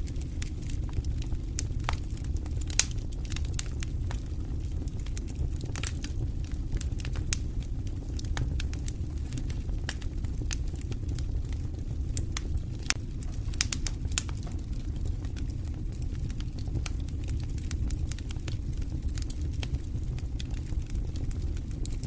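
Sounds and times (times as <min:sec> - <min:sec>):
fire rumbling: 0:00.0 - 0:22.0
logs crackling and popping: 0:00.0 - 0:22.0.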